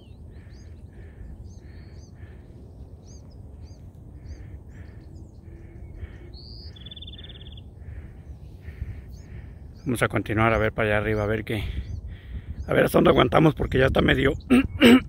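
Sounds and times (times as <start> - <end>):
bird trill: 0.0 - 12.7
low rumbling noise: 0.0 - 12.7
birds chirping: 0.0 - 15.0.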